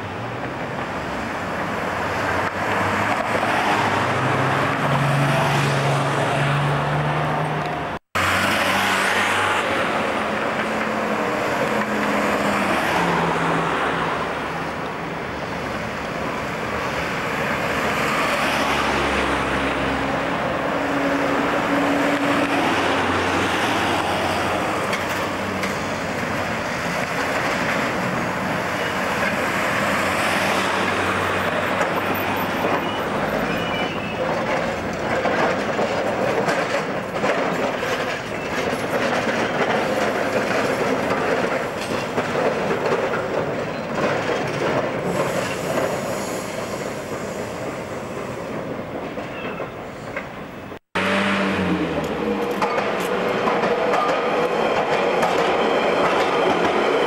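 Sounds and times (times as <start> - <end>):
passing car traffic: 0.0 - 57.0
tram running: 0.0 - 57.0
tram wheels clacking over rail joints: 0.3 - 6.8, 7.6 - 57.0.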